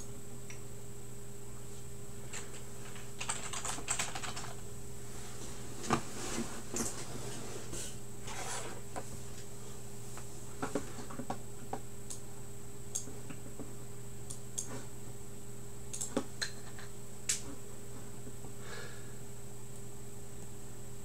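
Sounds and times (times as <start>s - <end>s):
electrical hum with high whine: 0.0s - 21.0s.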